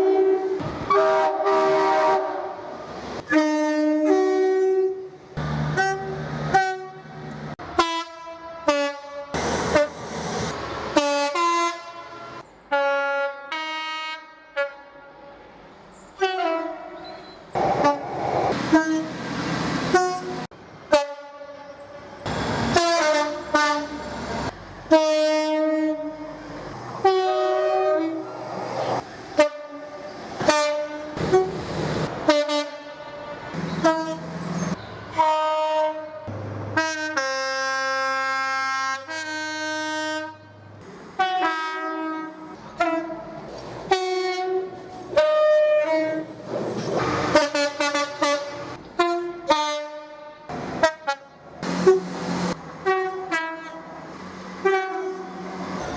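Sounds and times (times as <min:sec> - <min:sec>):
train horn blasts: 0:00.0 - 0:15.5, 0:16.2 - 0:19.2, 0:19.9 - 0:22.0, 0:22.7 - 0:26.4, 0:27.0 - 0:28.4, 0:29.4 - 0:31.6, 0:32.2 - 0:40.6, 0:41.2 - 0:46.4, 0:47.1 - 0:53.9, 0:54.6 - 0:55.6.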